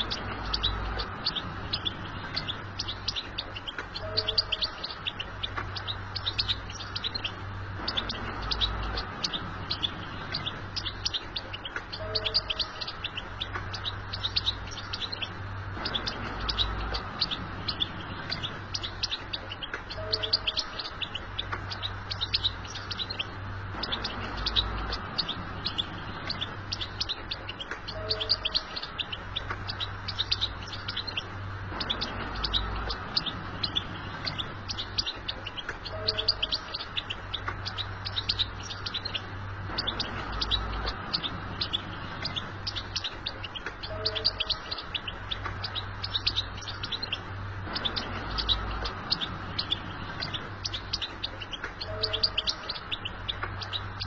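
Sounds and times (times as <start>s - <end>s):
goldfinch twittering song: 0.0s - 54.0s
steady low hum: 0.0s - 54.0s.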